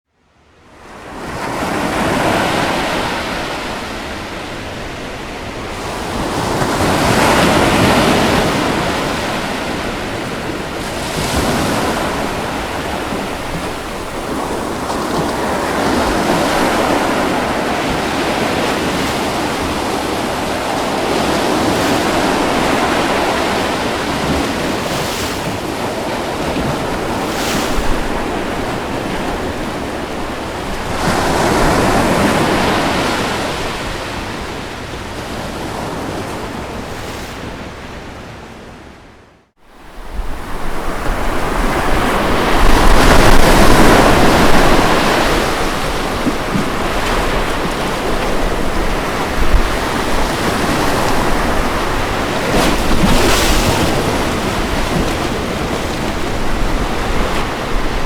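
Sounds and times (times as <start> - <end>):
ocean waves breaking on beach: 0.4 - 58.0.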